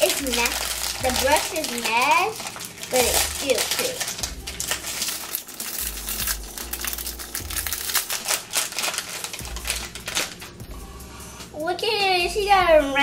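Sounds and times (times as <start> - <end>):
foil wrapping crinkling: 0.0 - 10.6.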